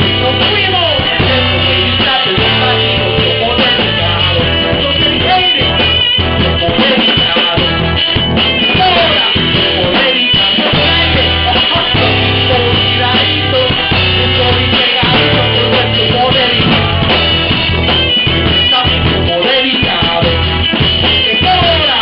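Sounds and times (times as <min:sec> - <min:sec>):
bass line: 0:00.0 - 0:22.0
drums: 0:00.0 - 0:22.0
person rapping into a microphone: 0:00.0 - 0:22.0.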